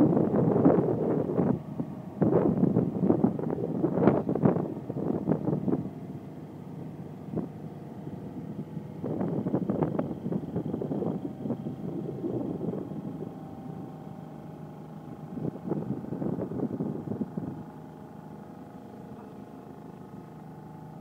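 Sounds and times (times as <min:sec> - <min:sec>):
barge engine running: 0:00.0 - 0:21.0.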